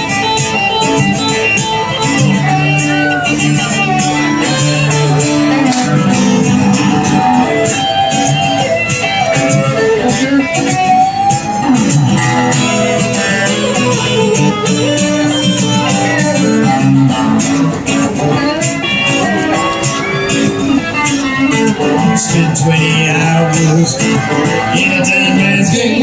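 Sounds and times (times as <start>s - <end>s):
guitar lead melody: 0.0s - 26.0s
live rock band playing: 0.0s - 26.0s.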